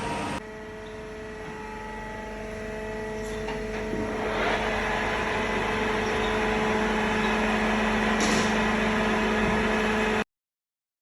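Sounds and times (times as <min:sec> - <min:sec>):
metal lathe humming: 0:00.0 - 0:10.2.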